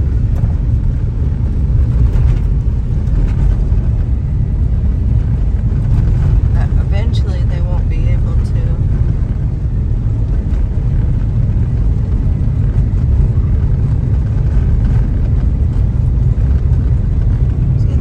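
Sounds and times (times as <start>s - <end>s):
car interior road noise: 0.0s - 18.0s.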